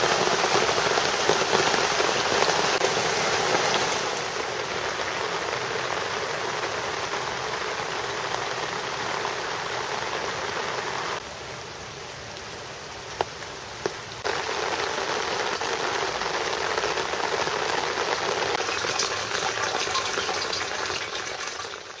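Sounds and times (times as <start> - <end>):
rain running off metal roof: 0.0 - 22.0.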